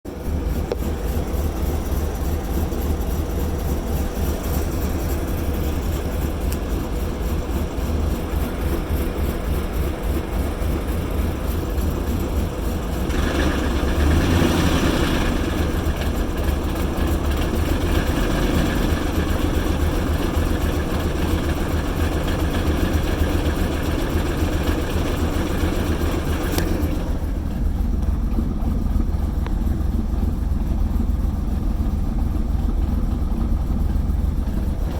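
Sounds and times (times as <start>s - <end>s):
engine idling roughly: 0.1s - 34.9s.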